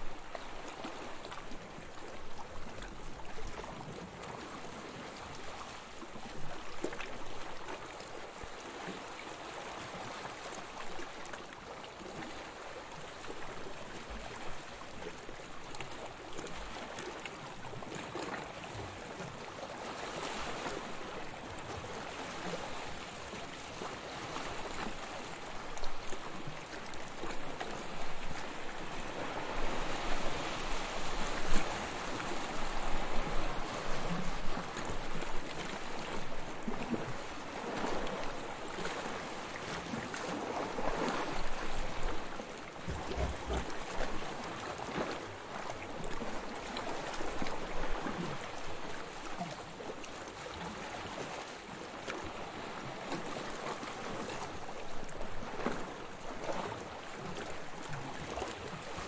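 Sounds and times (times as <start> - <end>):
sea waves washing onto beach: 0.0 - 59.0.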